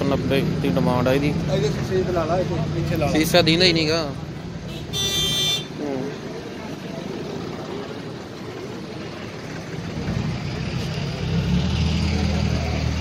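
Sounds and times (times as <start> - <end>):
tractor engine drone: 0.0 - 13.0.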